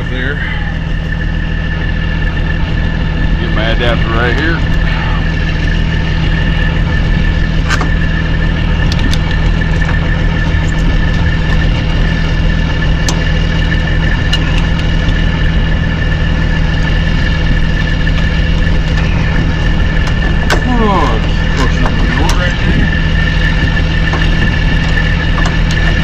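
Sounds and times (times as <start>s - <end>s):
truck diesel engine idling: 0.0s - 26.0s.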